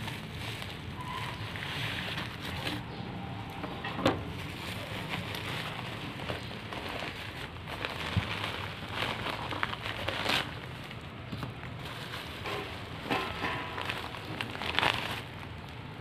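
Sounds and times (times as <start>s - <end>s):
plastic and bubble wrap crinkling: 0.0s - 16.0s.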